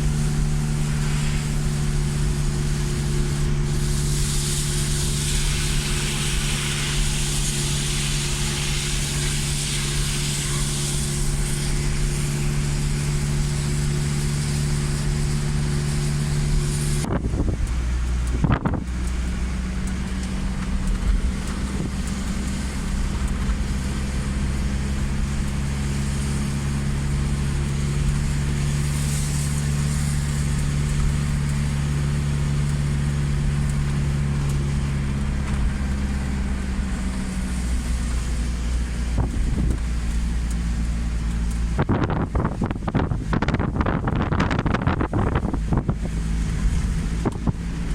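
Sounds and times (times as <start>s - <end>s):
heavy rain hissing: 0.0s - 43.3s
vehicle engine humming: 0.0s - 47.9s.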